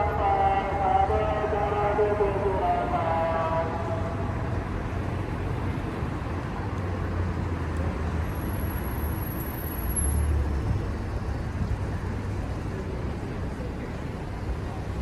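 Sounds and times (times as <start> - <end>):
vehicles driving past: 0.0 - 15.0.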